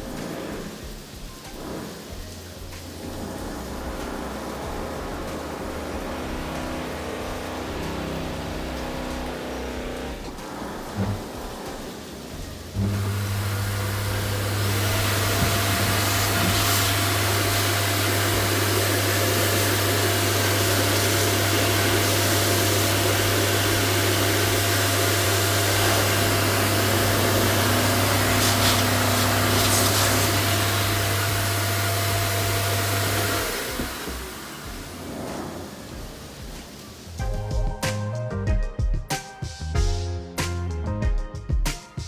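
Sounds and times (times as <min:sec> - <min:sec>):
electric machine humming: 0:00.0 - 0:37.8.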